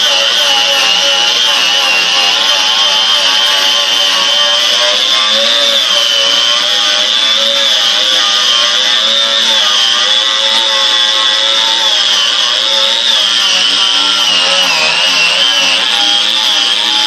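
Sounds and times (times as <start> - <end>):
angle grinder whining: 0.0 - 17.0.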